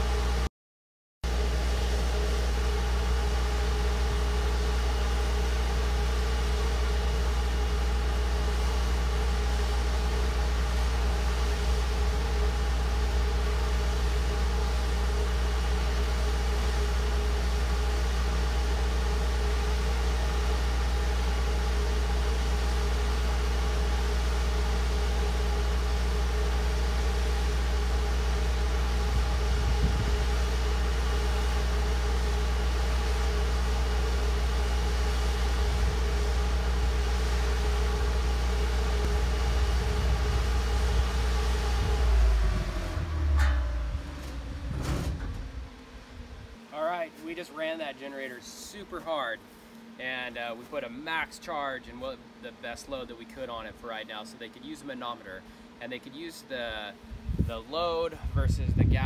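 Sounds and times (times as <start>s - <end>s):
generator engine humming: 0.0s - 0.5s, 1.2s - 59.0s.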